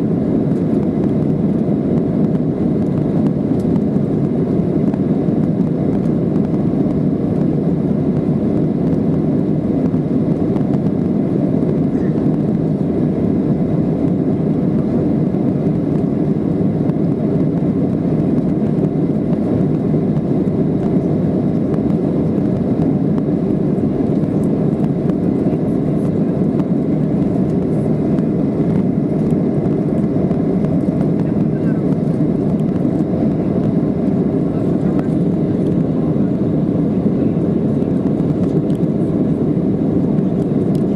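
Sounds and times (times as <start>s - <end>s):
jet engine and airflow rush: 0.0s - 40.9s.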